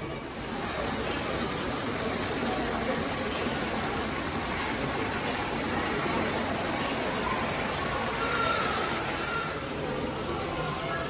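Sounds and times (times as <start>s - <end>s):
faint voices: 0.0s - 11.0s
rushing falling water: 0.0s - 11.0s.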